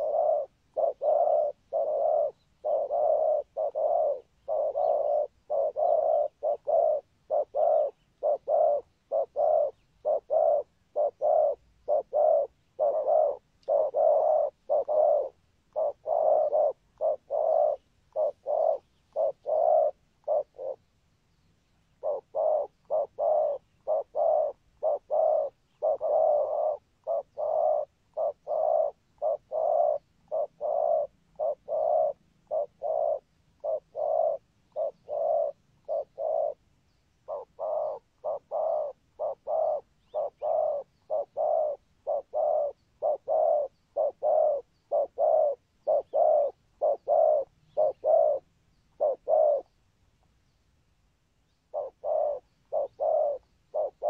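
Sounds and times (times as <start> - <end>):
dove cooing: 0.0 - 21.0, 21.8 - 49.8, 51.6 - 54.0.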